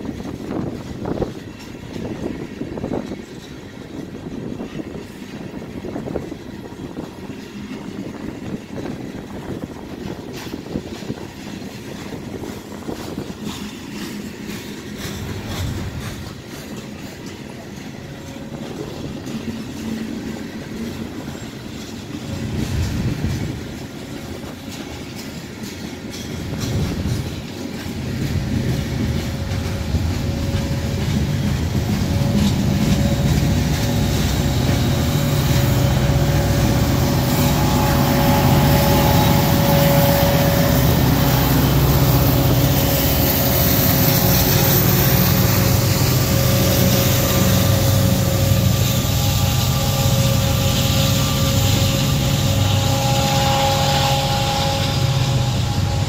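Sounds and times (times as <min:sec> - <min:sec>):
diesel locomotive engine drone: 0:00.0 - 0:56.0
train wheels clicking over rail joints: 0:00.0 - 0:56.0.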